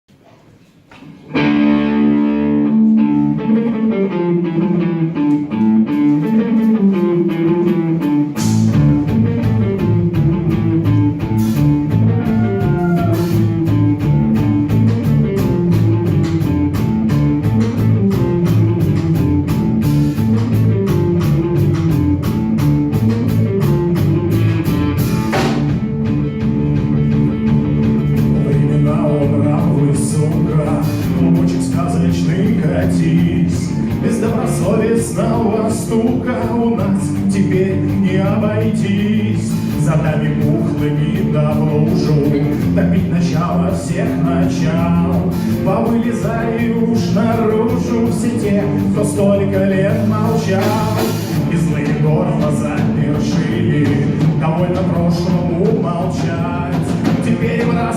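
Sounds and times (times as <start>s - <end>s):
electric guitar: 0.9s - 57.9s
rock band playing: 1.3s - 57.9s
drums and bass beat: 1.4s - 57.9s.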